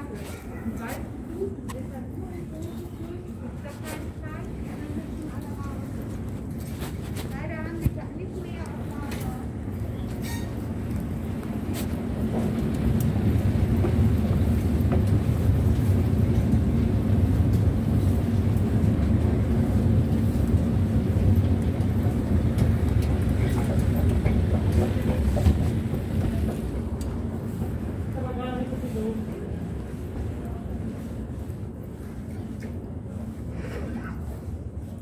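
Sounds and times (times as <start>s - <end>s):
escalator rumble and hum: 0.0s - 34.8s.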